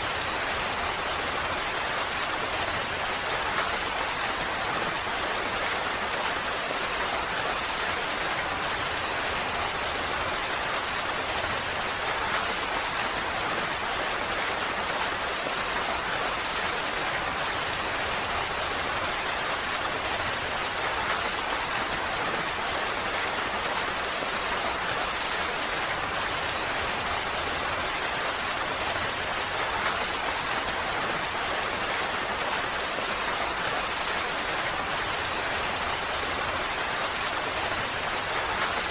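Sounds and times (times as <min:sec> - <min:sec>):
steady rain hiss: 0:00.0 - 0:38.9
faint raindrop ticks: 0:05.6 - 0:18.6, 0:19.6 - 0:26.7, 0:27.4 - 0:38.9.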